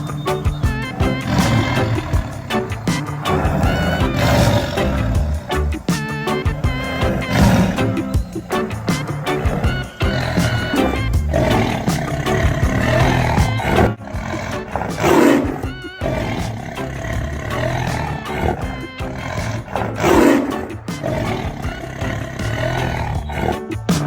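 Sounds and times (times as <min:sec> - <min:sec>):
lion roaring: 0:00.0 - 0:23.8
background music: 0:00.0 - 0:24.0.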